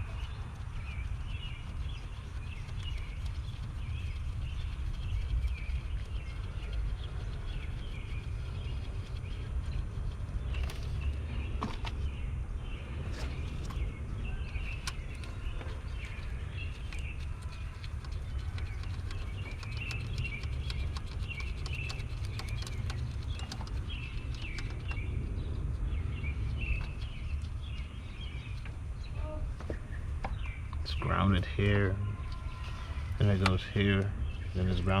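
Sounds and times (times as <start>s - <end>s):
small birds chirping: 0.0s - 35.0s
steady low rumble: 0.0s - 35.0s.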